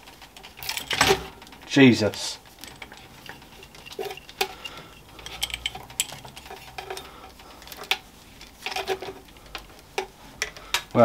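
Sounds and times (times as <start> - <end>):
light metal clicks and knocks: 0.0 - 11.0.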